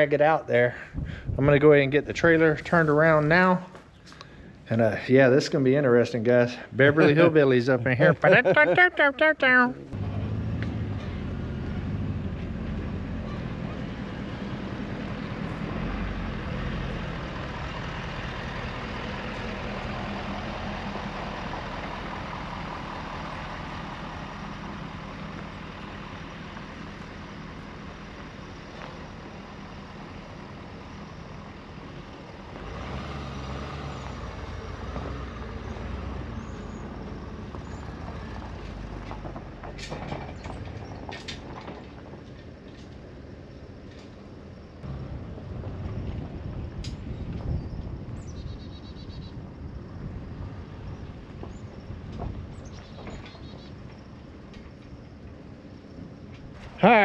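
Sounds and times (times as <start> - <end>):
vehicle engine running: 5.8 - 57.0.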